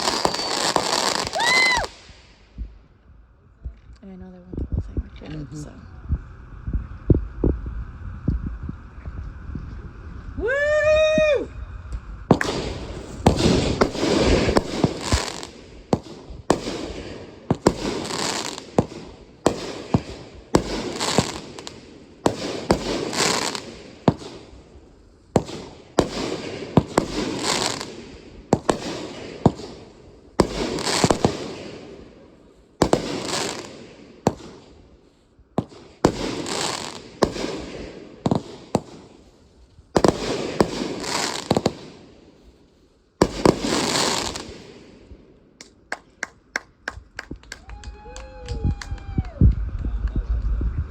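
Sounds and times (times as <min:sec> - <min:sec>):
fireworks bangs: 0:00.0 - 0:03.0, 0:03.6 - 0:50.9.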